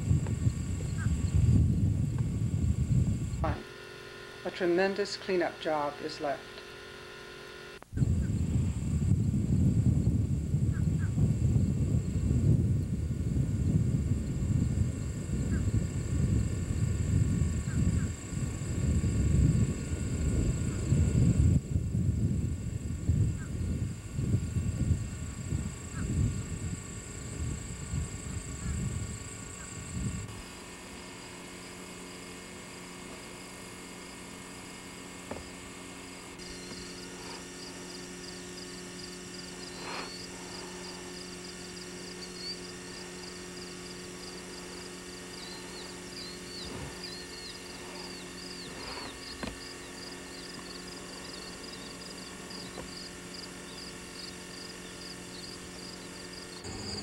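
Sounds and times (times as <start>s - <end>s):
insects chirping: 0.0s - 57.0s
low electrical hum: 0.0s - 57.0s.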